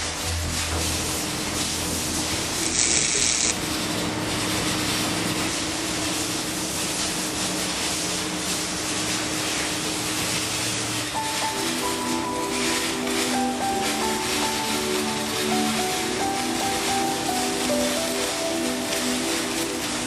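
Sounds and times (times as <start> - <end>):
machinery buzzing: 0.0 - 20.0.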